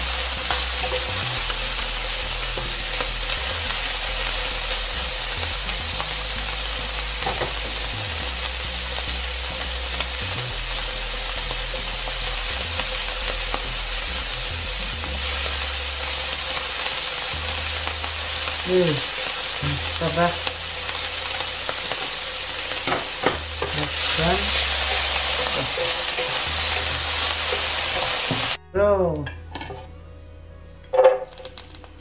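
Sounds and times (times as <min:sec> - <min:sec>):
steak sizzling in oil: 0:00.0 - 0:28.6, 0:31.3 - 0:31.8.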